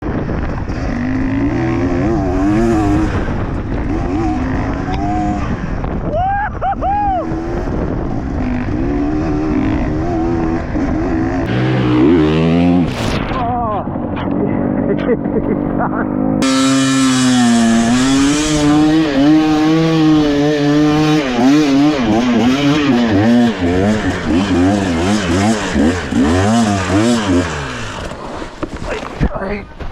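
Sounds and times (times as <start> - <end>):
dirt bike engine revving: 0.1 - 6.1, 7.1 - 29.0.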